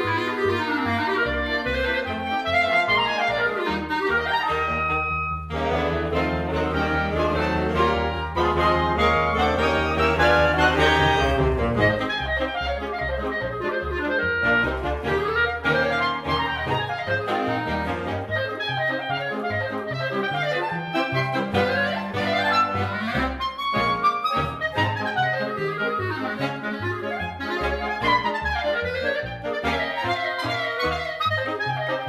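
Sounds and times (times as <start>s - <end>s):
small wind band accompaniment: 0.0s - 32.0s
solo clarinet melody: 0.0s - 32.0s.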